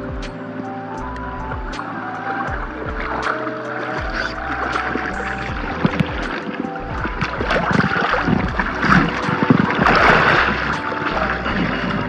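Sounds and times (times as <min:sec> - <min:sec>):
soft kick drum and hi-hat beat: 0:00.0 - 0:03.4, 0:04.0 - 0:12.0
lofi music with sustained chords: 0:00.0 - 0:12.0.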